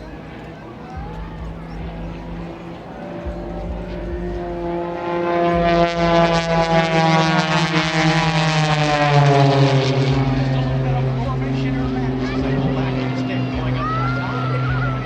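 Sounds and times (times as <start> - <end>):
propeller airplane engine passing: 0.0 - 15.0.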